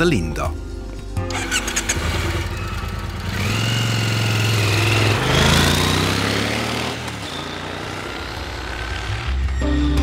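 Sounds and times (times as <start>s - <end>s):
motorcycle engine pulling away: 1.2s - 9.7s.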